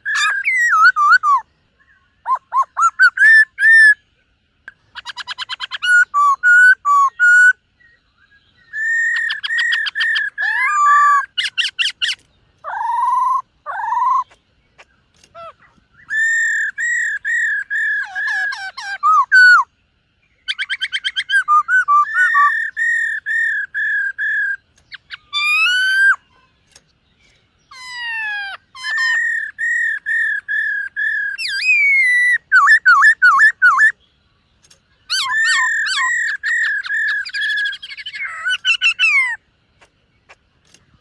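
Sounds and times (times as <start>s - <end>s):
bird singing whistled phrases: 0.0s - 4.0s, 5.1s - 14.4s, 15.3s - 19.7s, 20.3s - 26.4s, 27.2s - 34.0s, 35.0s - 39.4s.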